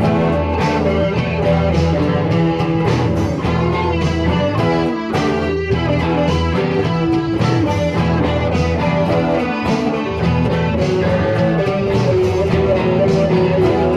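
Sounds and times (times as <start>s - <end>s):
band music led by guitar: 0.0s - 13.9s
low bass notes: 0.0s - 13.9s.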